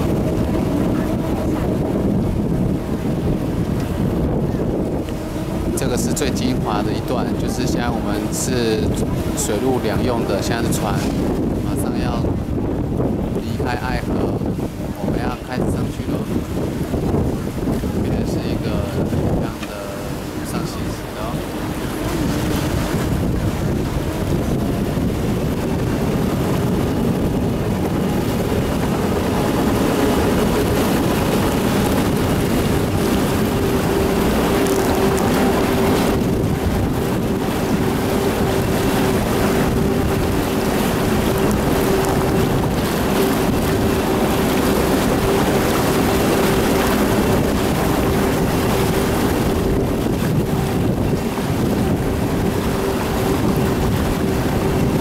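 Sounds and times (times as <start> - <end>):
boat engine humming: 0.0 - 55.0
water churning along hull: 0.0 - 55.0
wind buffeting microphone: 0.0 - 55.0.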